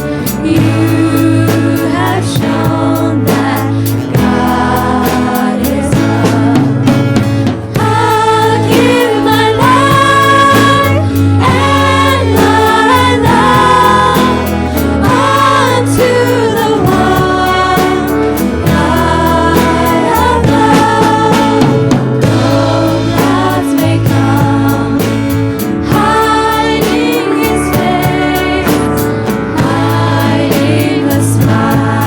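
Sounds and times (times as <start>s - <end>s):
instrumental backing with bass: 0.0s - 32.0s
voices singing worship song: 0.0s - 32.0s.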